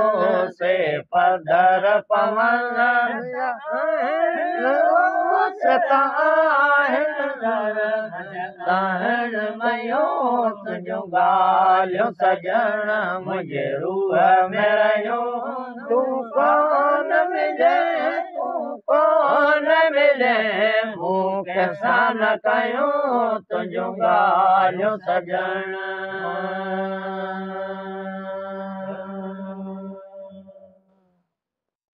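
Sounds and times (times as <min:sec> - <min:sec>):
men singing devotional chant: 0:00.0 - 0:30.5.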